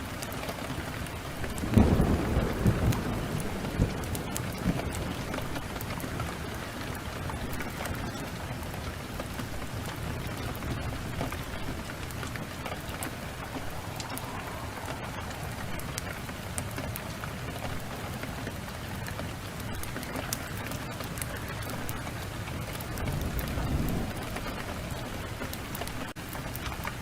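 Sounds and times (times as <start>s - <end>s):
heavy rain: 0.0s - 27.0s
wood fire crackling: 0.0s - 27.0s.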